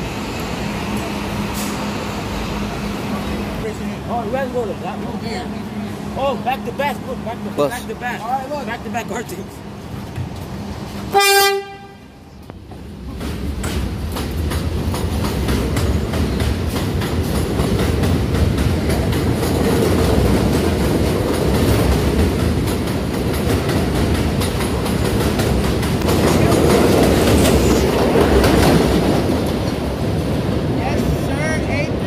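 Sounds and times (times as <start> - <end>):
subway train wheels clicking: 0.0 - 32.0
train rumble: 0.0 - 32.0.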